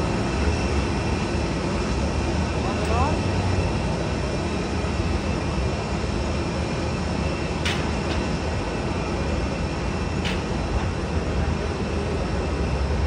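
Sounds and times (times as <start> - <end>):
jet engines taxiing: 0.0 - 13.0.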